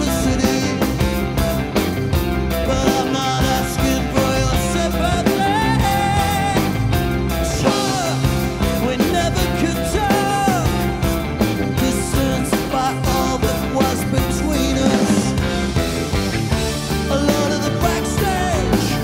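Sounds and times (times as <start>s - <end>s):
man singing: 0.0s - 1.4s, 2.5s - 15.7s, 16.8s - 19.0s
live rock band playing: 0.0s - 19.0s.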